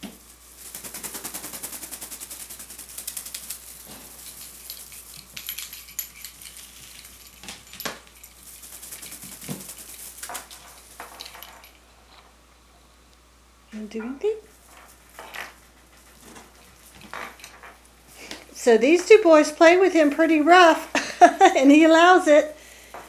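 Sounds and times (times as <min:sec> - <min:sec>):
kittens playing with rattling toys: 0:00.0 - 0:12.3, 0:14.5 - 0:21.6.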